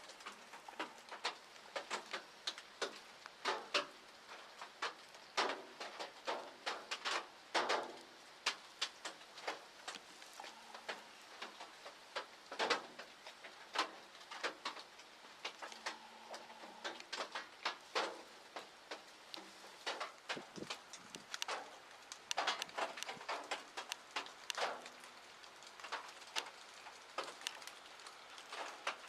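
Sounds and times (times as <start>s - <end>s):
raindrops tapping: 0.0s - 29.0s.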